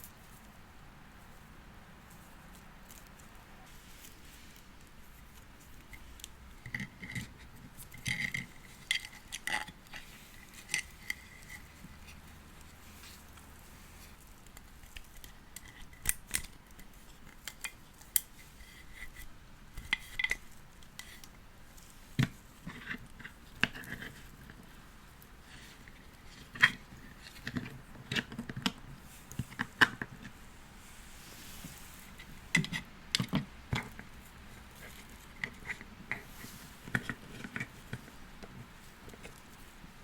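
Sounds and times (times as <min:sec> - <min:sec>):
faint rustling: 0:00.0 - 0:15.4, 0:20.4 - 0:40.0.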